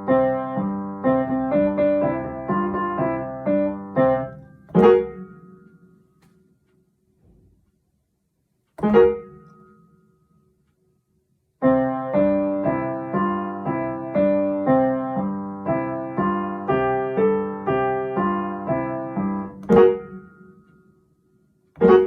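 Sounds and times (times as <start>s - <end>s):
piano chords: 0.0s - 6.5s, 8.8s - 10.5s, 11.6s - 21.2s, 21.8s - 22.0s.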